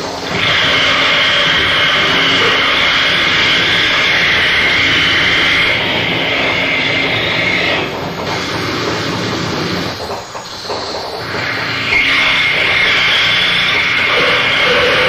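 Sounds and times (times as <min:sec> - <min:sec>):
harsh noise music static: 0:00.0 - 0:15.0.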